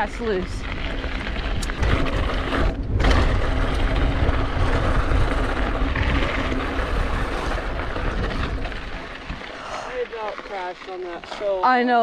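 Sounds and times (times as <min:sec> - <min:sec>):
wind rushing over microphone: 0:00.0 - 0:09.9
tyres crunching over dirt: 0:00.0 - 0:12.0.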